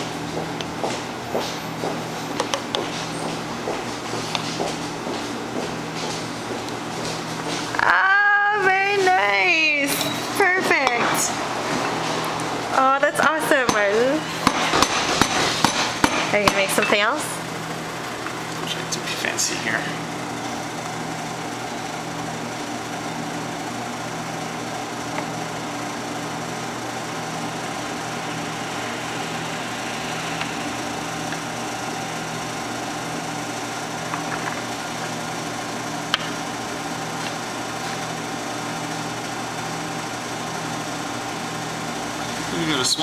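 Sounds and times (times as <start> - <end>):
espresso machine hum: 0.0 - 43.0.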